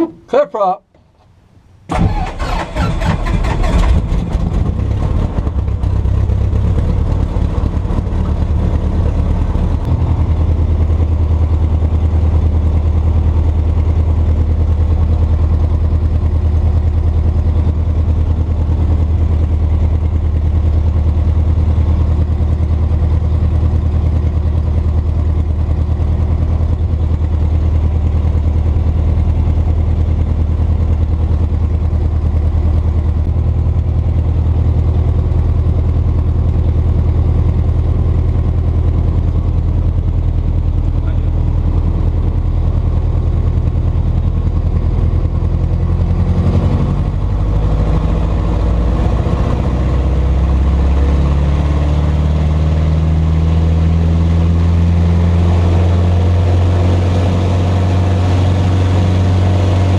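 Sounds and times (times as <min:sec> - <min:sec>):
propeller plane engine idling: 0:01.9 - 0:59.9.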